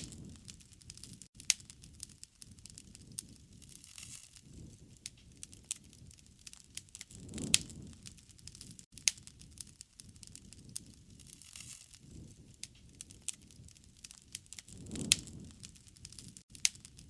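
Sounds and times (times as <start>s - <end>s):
low rush of flame: 0.0s - 17.0s
wood fire crackling: 0.0s - 17.0s.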